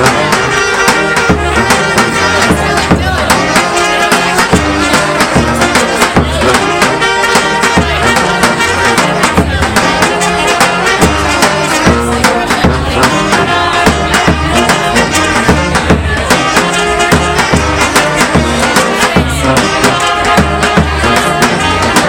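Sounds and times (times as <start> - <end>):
drumbeat: 0.0 - 22.0
street band playing: 0.0 - 22.0.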